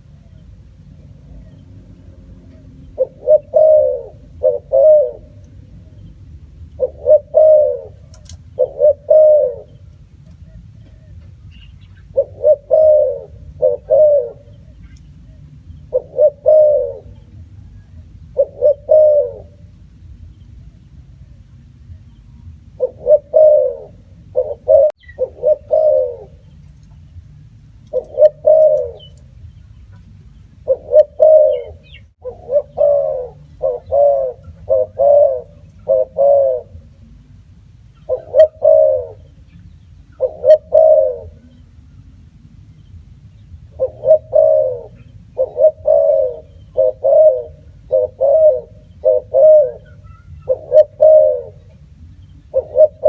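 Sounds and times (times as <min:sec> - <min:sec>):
dove cooing: 0:00.0 - 0:20.1, 0:22.7 - 0:27.2, 0:27.8 - 0:42.0, 0:43.6 - 0:53.0
faint low hum: 0:00.0 - 0:53.0.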